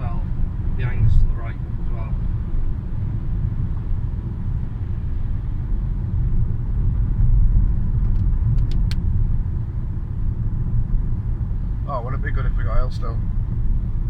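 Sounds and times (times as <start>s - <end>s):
car engine rumbling from inside: 0.0s - 14.0s.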